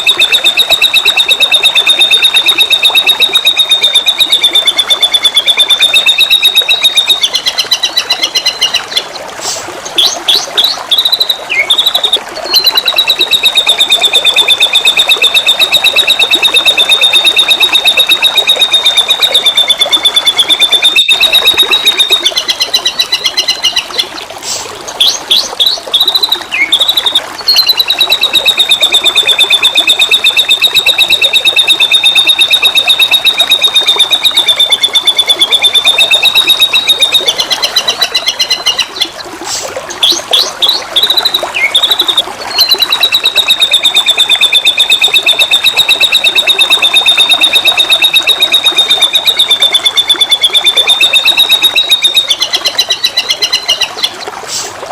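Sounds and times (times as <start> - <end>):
bird singing trills and whistles: 0.0 - 39.3, 39.9 - 54.7
flowing water: 0.0 - 54.9.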